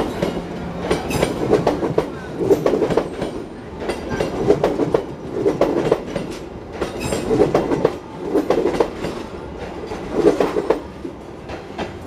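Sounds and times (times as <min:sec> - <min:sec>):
train wheels clacking over rail joints: 0:00.0 - 0:12.0.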